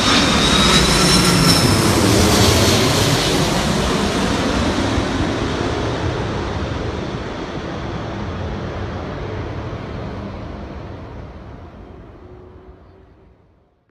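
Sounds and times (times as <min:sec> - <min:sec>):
jet airliner engine rushing: 0:00.0 - 0:13.3.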